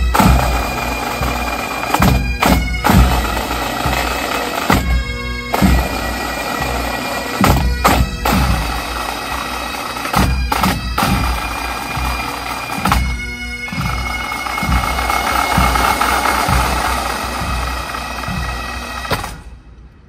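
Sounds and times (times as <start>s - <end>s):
bagpipes playing: 0.0s - 19.4s
drum beats: 0.0s - 19.6s.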